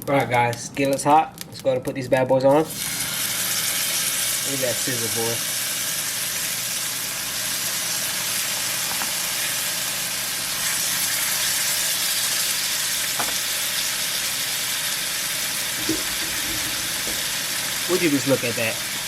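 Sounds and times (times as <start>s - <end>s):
fish frying in oil: 2.7s - 19.0s.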